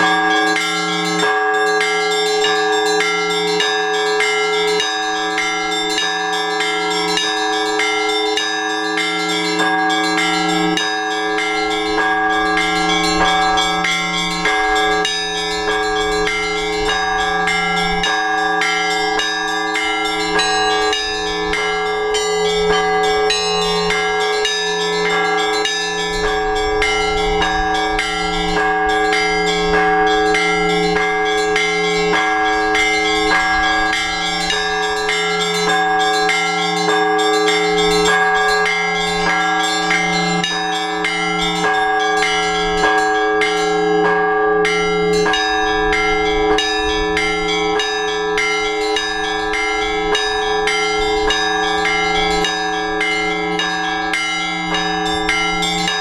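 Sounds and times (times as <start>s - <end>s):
large bells ringing: 0.0s - 56.0s
small bells struck rapidly: 0.0s - 56.0s.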